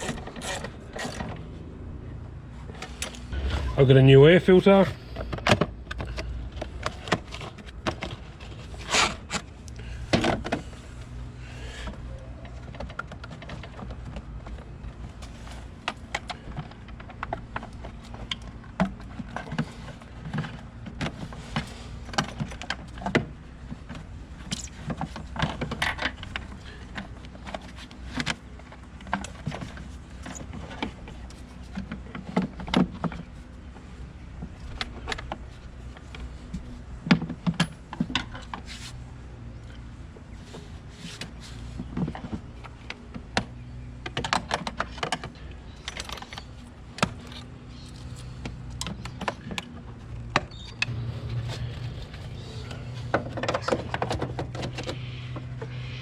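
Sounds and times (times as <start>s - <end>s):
steady low hum: 0.0s - 56.0s
hands handling parts: 4.4s - 56.0s.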